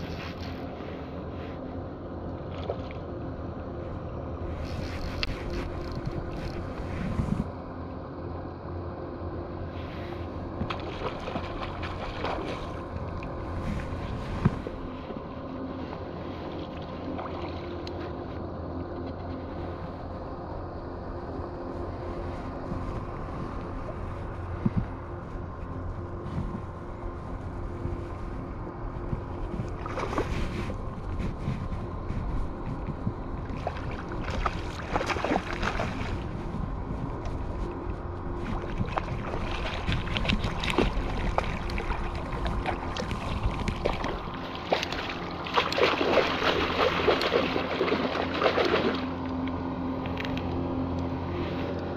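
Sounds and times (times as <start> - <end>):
steady low hum: 0.0 - 51.9
wind rumbling on microphone: 0.0 - 51.9.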